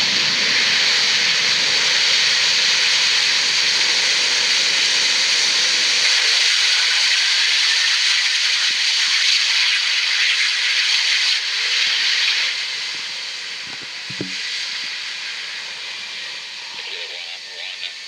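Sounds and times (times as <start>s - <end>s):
jet engine hiss: 0.0s - 18.0s.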